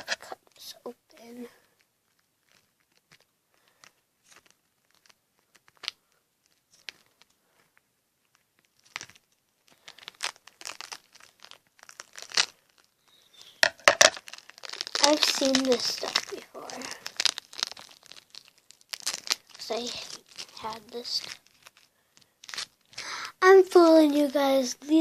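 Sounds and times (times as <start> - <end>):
crinkling handling noise: 0.0 - 25.0
squishy toy tearing: 1.7 - 7.3, 8.3 - 23.1.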